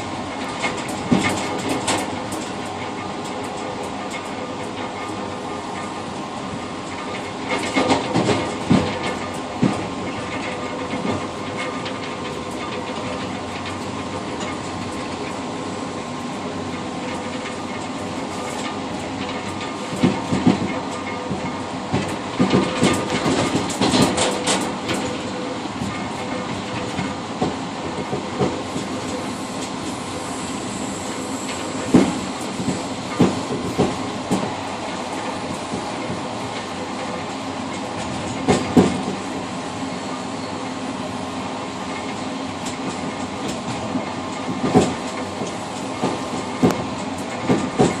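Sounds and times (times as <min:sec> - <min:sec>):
wheel clicks over rail joints: 0:00.0 - 0:30.0, 0:31.5 - 0:39.6, 0:41.9 - 0:48.0
train rumble: 0:00.0 - 0:48.0.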